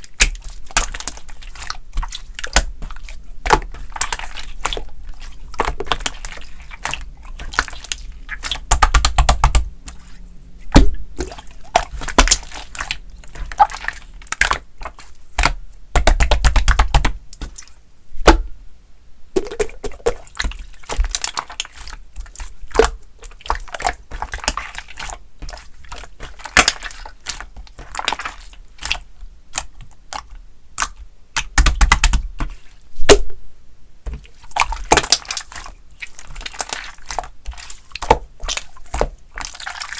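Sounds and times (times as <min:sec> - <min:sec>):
slime squishing: 0:00.0 - 0:18.5, 0:19.4 - 0:33.3, 0:34.1 - 0:39.9.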